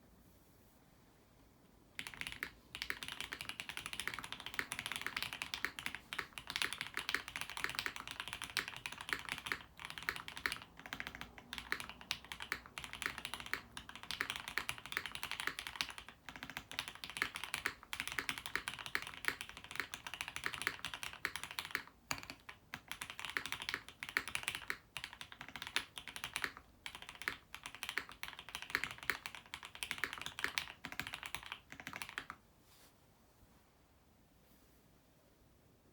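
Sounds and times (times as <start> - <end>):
mechanical keyboard typing: 2.0 - 32.4.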